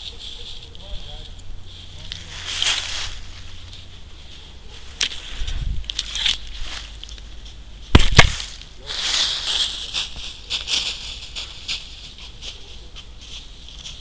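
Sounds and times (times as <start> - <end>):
footsteps crunching dry leaves: 0.0 - 14.0.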